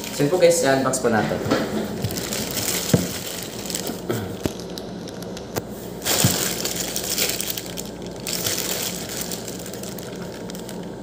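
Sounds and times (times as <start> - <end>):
plastic pouch crinkling: 0.0 - 0.5, 1.9 - 11.0.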